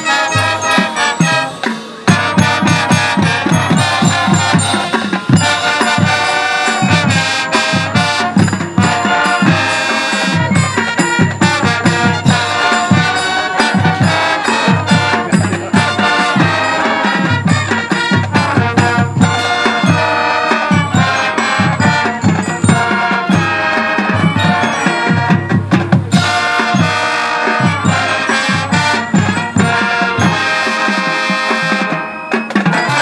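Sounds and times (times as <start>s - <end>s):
brass playing tune: 0.0s - 33.0s
marching drums: 0.0s - 33.0s.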